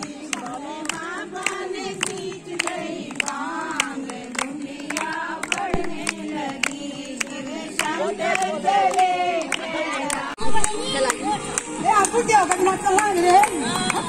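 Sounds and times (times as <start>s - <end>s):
hands clapping: 0.0s - 14.0s
women singing together: 0.0s - 14.0s.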